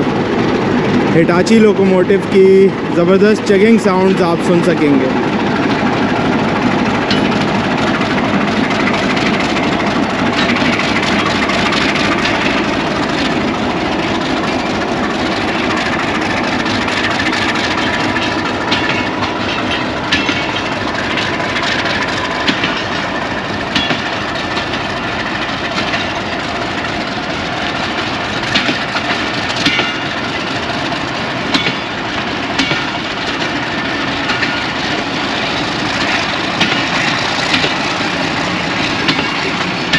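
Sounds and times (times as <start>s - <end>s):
diesel locomotive engine under load: 0.0s - 39.9s
train wheels clicking over rail joints: 0.0s - 39.9s.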